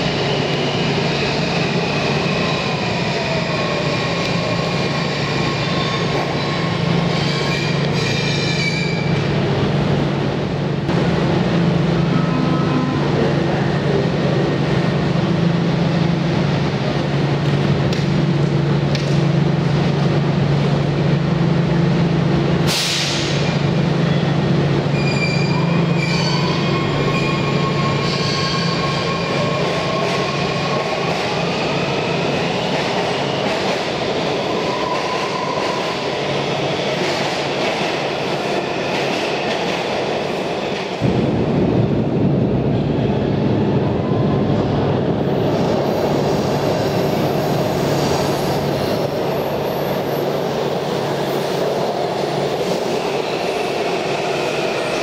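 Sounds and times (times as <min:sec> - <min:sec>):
low train hum: 0:00.0 - 0:55.0
rising train whine: 0:00.0 - 0:55.0.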